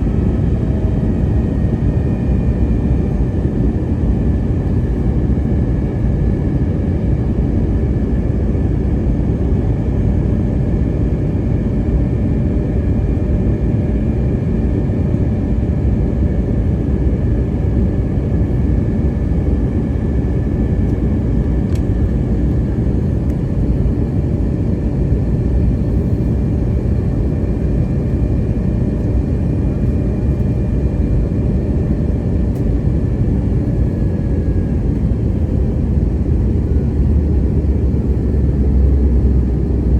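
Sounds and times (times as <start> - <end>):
airplane engine and airflow rumble: 0.0 - 39.9.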